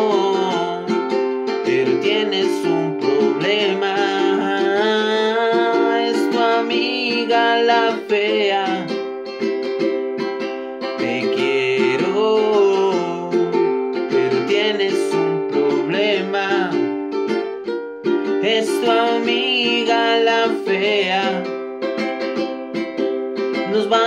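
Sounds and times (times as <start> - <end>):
man singing: 0.0 - 9.1, 10.8 - 17.1, 18.2 - 22.1, 23.4 - 24.0
ukulele strumming: 0.0 - 24.0.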